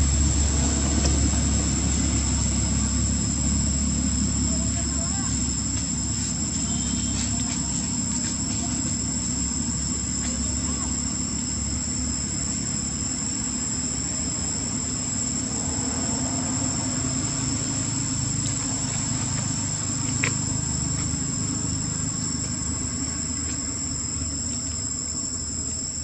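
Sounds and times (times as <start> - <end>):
high-pitched insect drone: 0.0 - 26.0
low steady rumble: 0.0 - 26.0.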